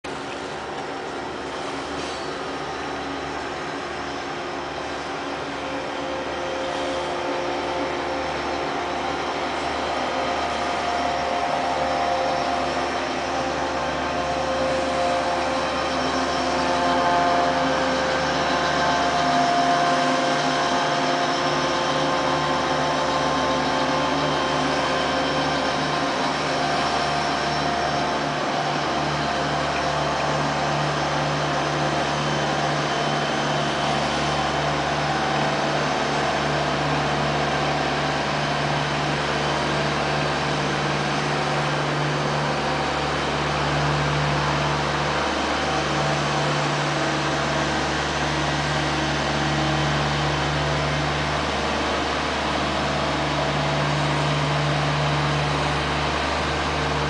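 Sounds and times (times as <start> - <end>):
freight train wheels on rail: 0.0 - 57.0.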